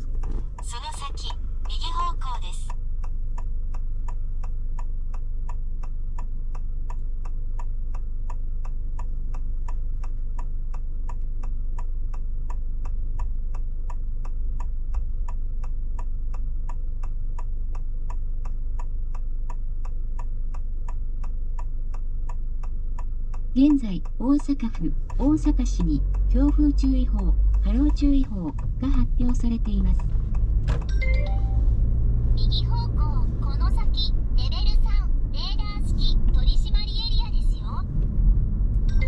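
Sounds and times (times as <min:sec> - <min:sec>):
car cabin rumble: 0:00.0 - 0:39.0
turn signal ticking: 0:00.0 - 0:39.0.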